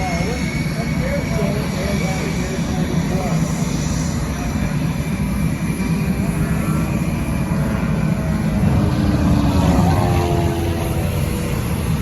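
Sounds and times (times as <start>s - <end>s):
propeller airplane flying past: 0.0s - 12.0s
steady low rumble: 0.6s - 12.0s.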